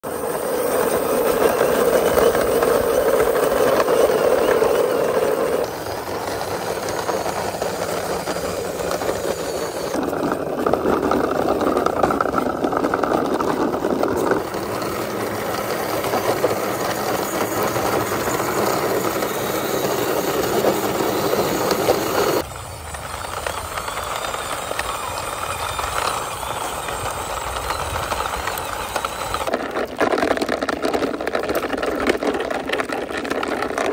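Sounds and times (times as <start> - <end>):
toy car wheels rolling on concrete: 0.0 - 33.9.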